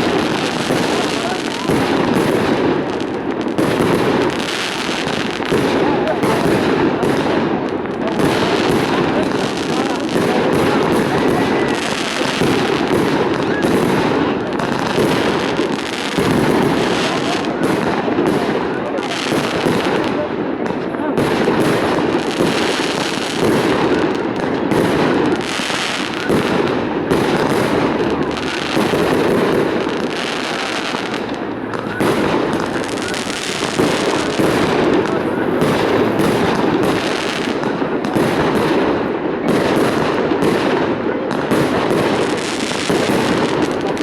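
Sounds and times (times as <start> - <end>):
fireworks bursting and crackling: 0.0 - 44.0.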